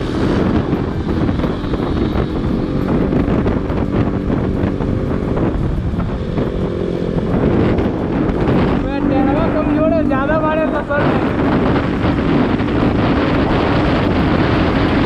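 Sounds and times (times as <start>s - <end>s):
motorcycle engine cruising: 0.0s - 15.0s
wind on microphone: 0.0s - 15.0s.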